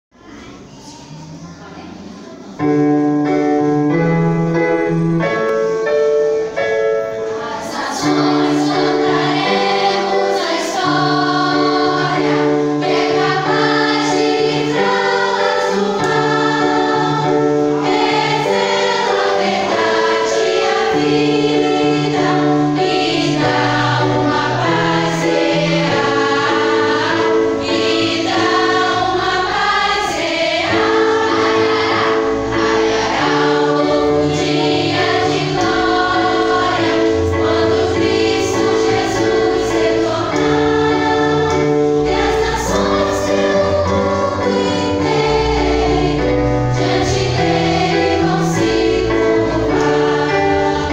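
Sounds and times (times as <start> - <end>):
keyboard sustained chords: 0.1 - 50.9
girls' choir singing a hymn: 0.2 - 50.9.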